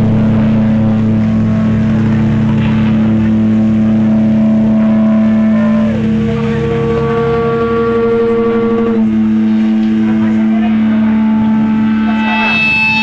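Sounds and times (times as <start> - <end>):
distorted electric guitar drone: 0.0 - 13.0
guitar note sliding down: 0.0 - 13.0.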